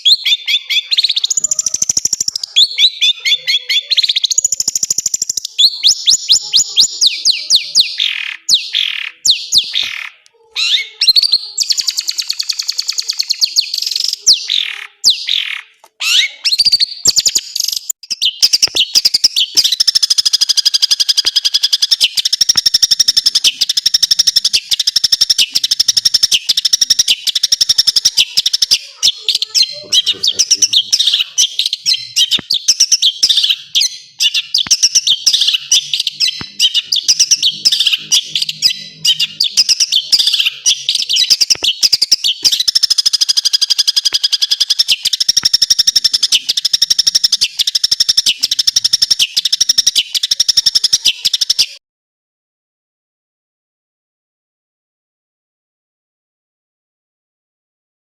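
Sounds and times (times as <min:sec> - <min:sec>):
bird singing rapid high song: 0:00.0 - 0:51.8.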